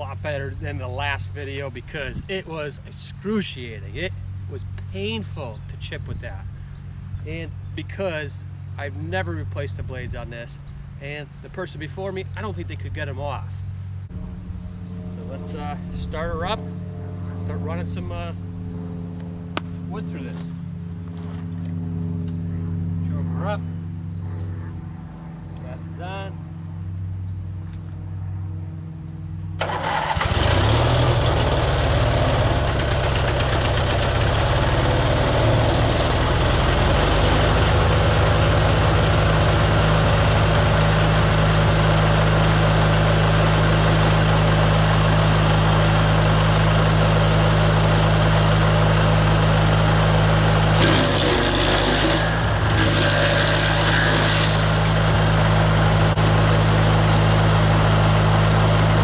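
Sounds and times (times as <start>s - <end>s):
wood chipper engine running: 0.0s - 7.4s, 11.8s - 23.3s, 29.6s - 59.0s.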